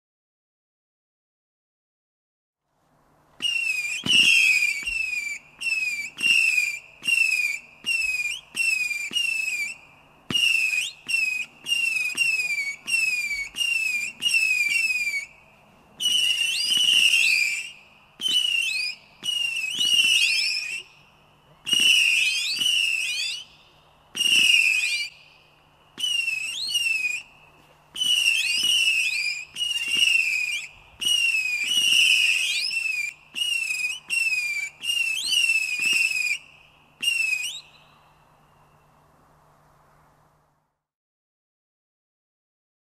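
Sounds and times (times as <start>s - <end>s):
whistling firework shots: 3.4s - 38.8s.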